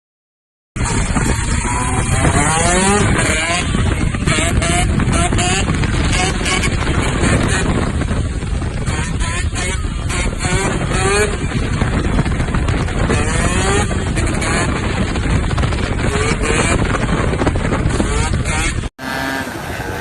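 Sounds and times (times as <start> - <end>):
dense low rumble: 0.8 - 18.9
dirt bike engines revving: 0.8 - 20.0.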